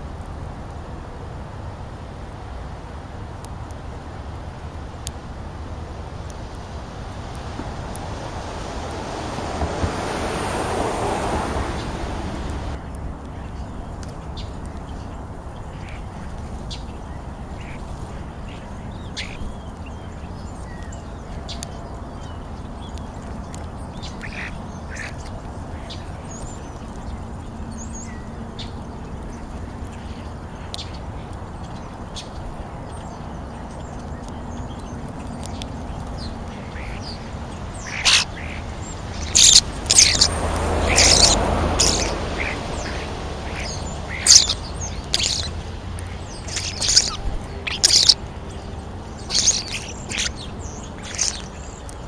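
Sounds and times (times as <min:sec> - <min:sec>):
low wind rumble: 0:00.0 - 0:52.0
birds calling: 0:03.6 - 0:52.0.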